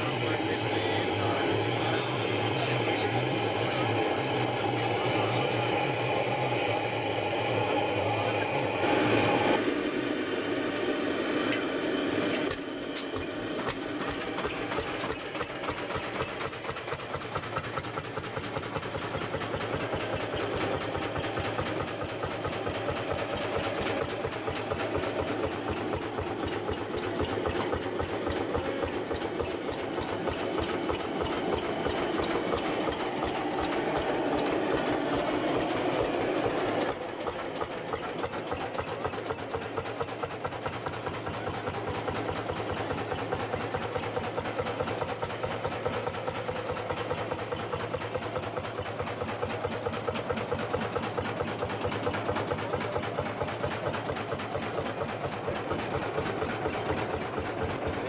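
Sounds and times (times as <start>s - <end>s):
engine idling with pulsing beat: 0.0s - 58.0s.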